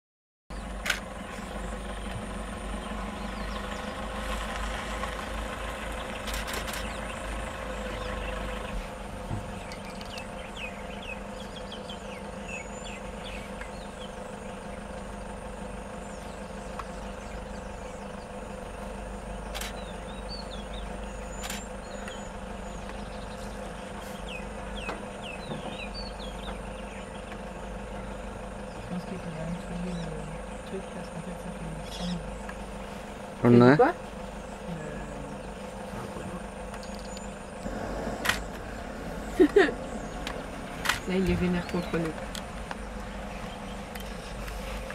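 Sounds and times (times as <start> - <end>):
vehicle engine idling: 0.5 - 44.9.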